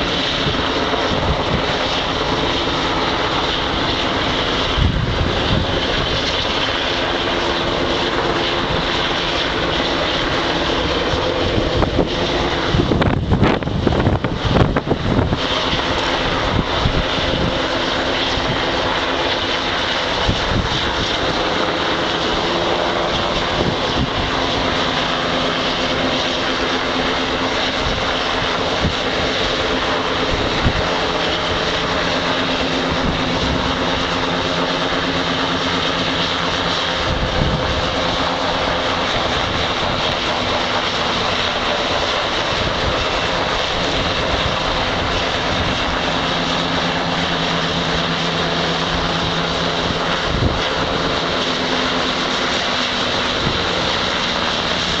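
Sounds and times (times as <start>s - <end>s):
helicopter rotor and turbine noise: 0.0s - 55.0s.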